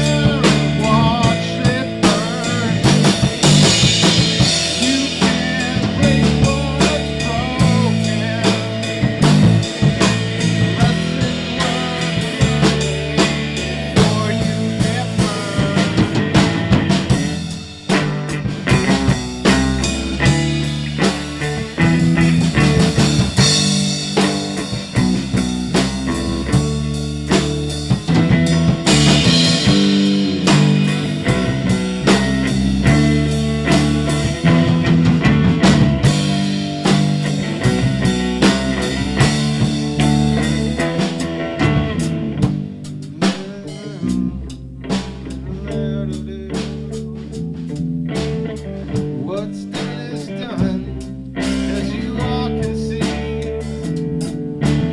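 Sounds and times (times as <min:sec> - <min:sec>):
rock band playing: 0:00.0 - 0:54.9.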